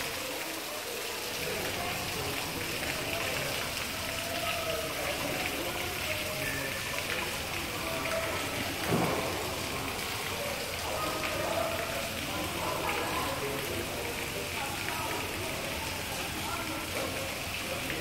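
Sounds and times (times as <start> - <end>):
rain-like rushing hiss: 0.0 - 18.0.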